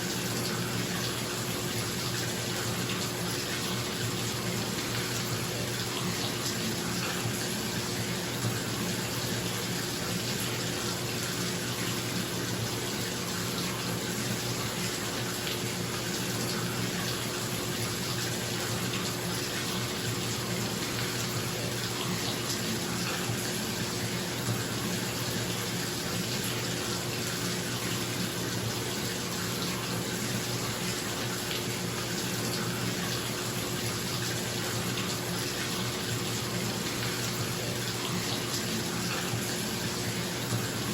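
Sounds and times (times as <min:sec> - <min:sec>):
tap water running into bathtub: 0:00.0 - 0:40.9.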